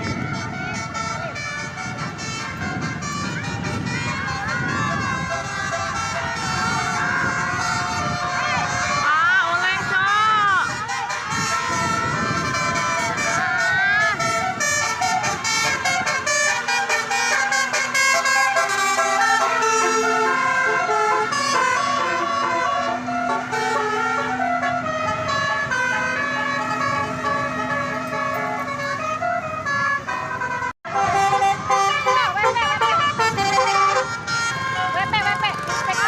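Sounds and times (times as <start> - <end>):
multi-tone bus horn melody: 0.0 - 36.0.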